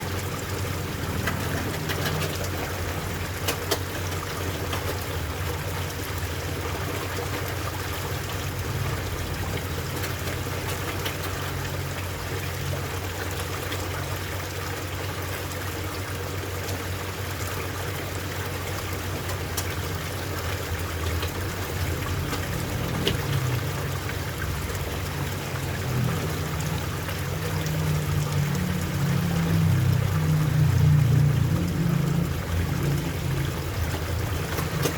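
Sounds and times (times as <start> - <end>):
water trickling into pond: 0.0 - 34.9.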